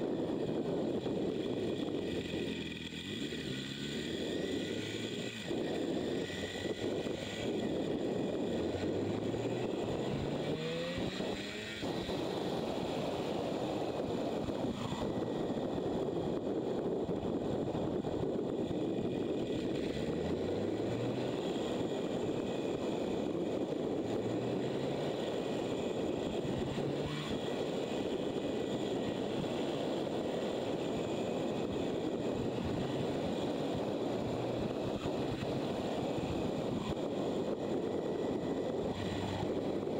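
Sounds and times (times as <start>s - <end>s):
wind and road noise: 0.0s - 39.9s
motorcycle engine revving: 0.4s - 15.8s, 18.3s - 39.9s.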